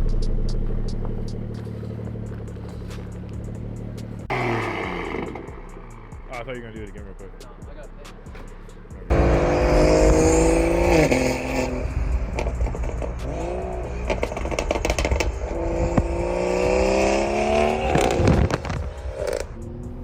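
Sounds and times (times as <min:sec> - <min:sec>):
car engine revving: 0:00.0 - 0:20.0
exhaust popping and crackling: 0:00.0 - 0:20.0.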